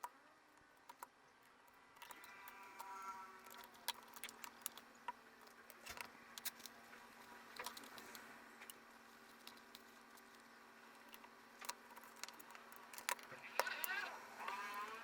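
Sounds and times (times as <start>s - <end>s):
plastic laptop parts clicking: 0.0s - 6.7s, 7.6s - 10.4s, 11.0s - 15.0s
faint steady hum: 0.0s - 15.0s.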